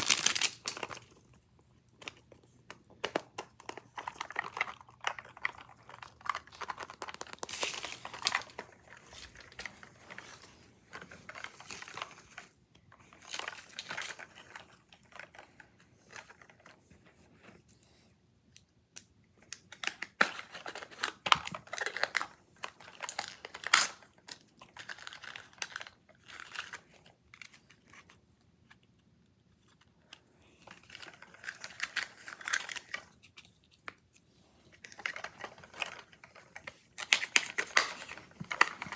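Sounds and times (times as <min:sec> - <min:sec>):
wrapping crinkling and tearing: 0:00.0 - 0:16.8, 0:19.4 - 0:38.9.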